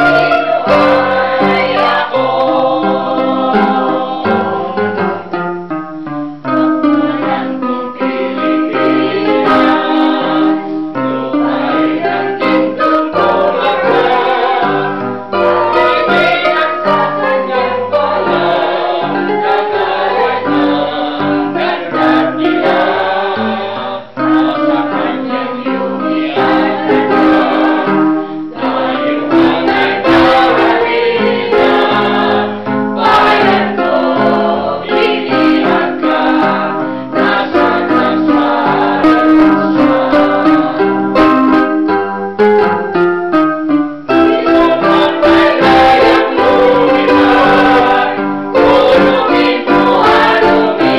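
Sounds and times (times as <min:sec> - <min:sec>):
choir singing: 0:00.0 - 0:05.4, 0:06.5 - 0:42.5, 0:44.1 - 0:50.9.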